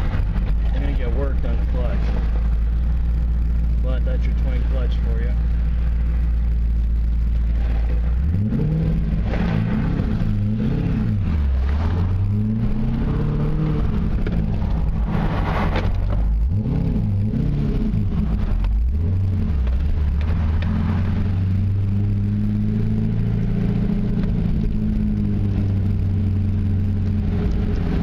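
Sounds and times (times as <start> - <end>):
car engine heard from cabin: 0.0 - 28.0.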